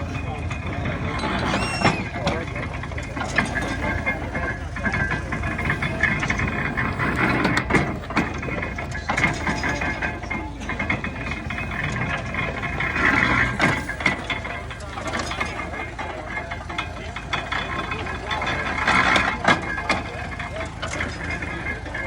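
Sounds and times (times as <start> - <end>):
baler mechanism clattering: 0.0 - 22.0
engine running steadily: 0.0 - 22.0.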